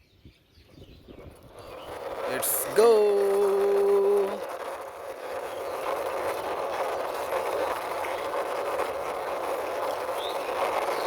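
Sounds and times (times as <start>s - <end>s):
toy truck wheels rolling: 1.0s - 11.0s.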